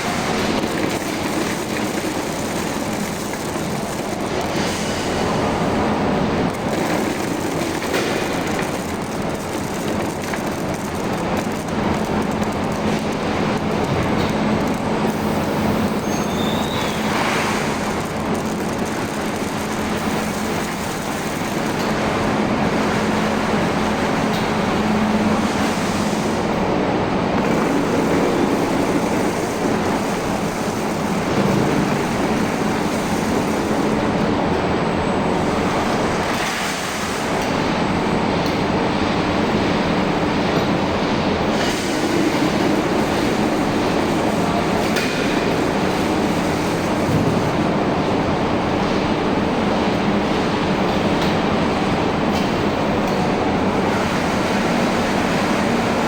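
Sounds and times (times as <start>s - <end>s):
coating machine running: 0.0s - 56.0s.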